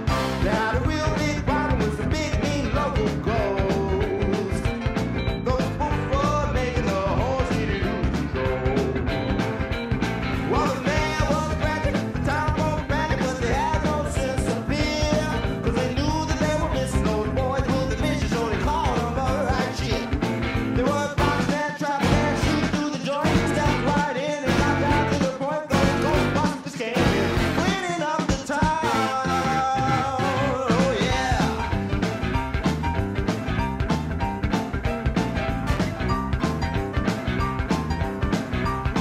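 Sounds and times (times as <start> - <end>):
upbeat song with vocals: 0.0 - 39.0.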